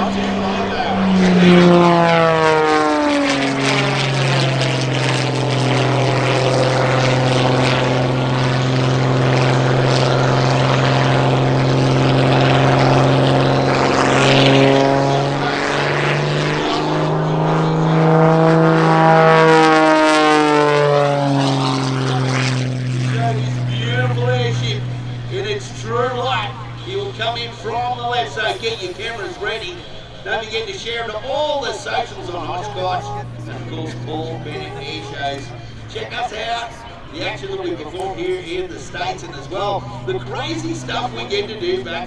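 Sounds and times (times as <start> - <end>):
propeller plane engine passing: 0.0 - 42.0.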